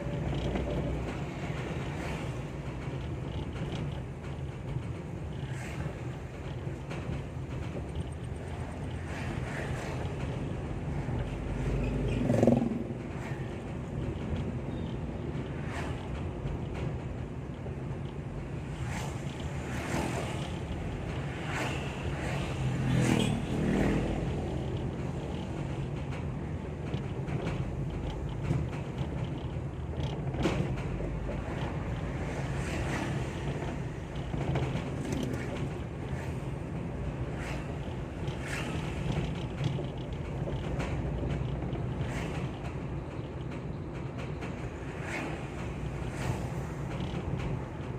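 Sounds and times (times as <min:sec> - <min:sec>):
knocks and rattles in vehicle: 0:00.0 - 0:47.9
vehicle engine and road noise: 0:00.0 - 0:47.9.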